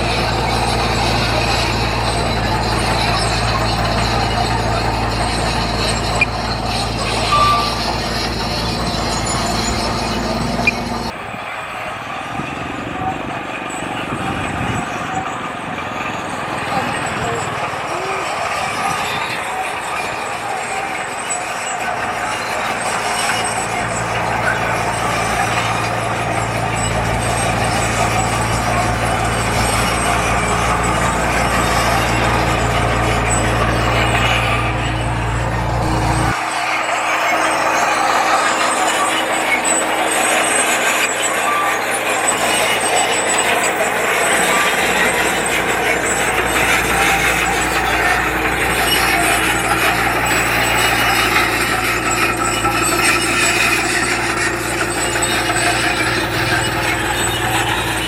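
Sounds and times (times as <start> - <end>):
deep drone: 0.0 - 11.4, 12.2 - 58.0
heavy machine engine running: 0.0 - 58.0
steady mechanical noise: 0.0 - 58.0.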